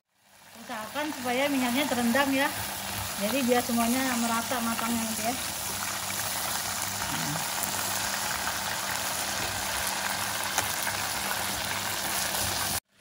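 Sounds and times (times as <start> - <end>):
chicken deep-frying in oil: 0.1 - 13.0.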